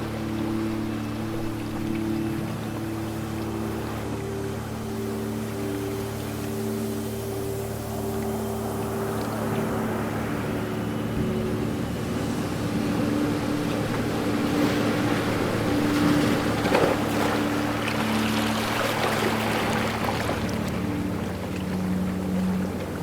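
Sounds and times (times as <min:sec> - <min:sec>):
ocean waves washing ashore: 0:00.0 - 0:23.0
steady low droning hum: 0:00.0 - 0:23.0.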